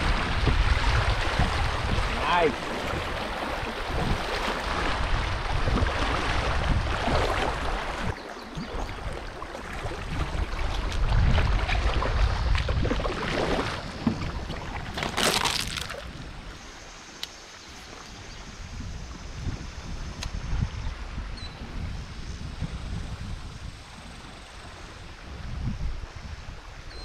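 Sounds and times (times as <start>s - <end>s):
wind buffeting microphone: 0.0s - 16.7s, 17.7s - 27.0s
river water rushing and lapping: 0.0s - 27.0s.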